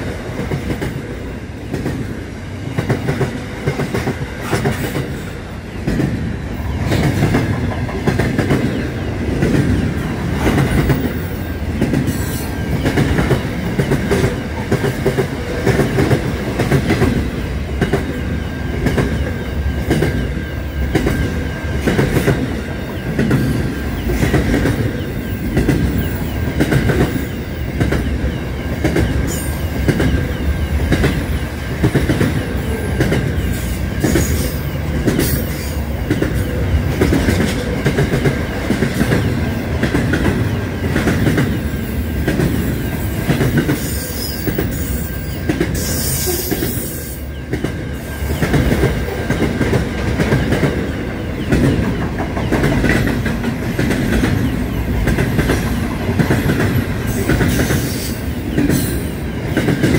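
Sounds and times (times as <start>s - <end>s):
freight train wagons rumbling: 0.0s - 59.9s.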